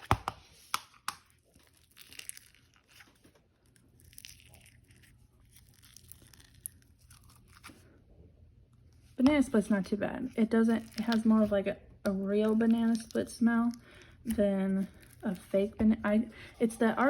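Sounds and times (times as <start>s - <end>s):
slime crinkling and crackling: 0.0s - 7.9s, 8.9s - 17.0s.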